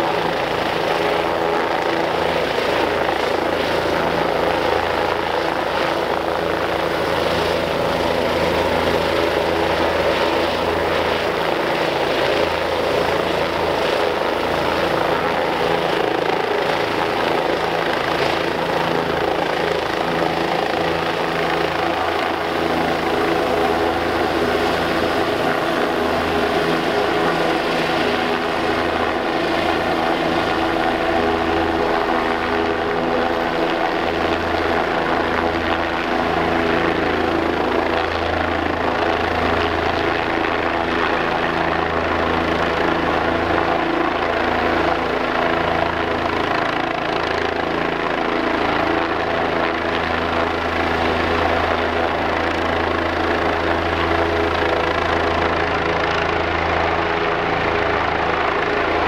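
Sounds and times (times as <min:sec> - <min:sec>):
helicopter hovering: 0:00.0 - 0:59.0.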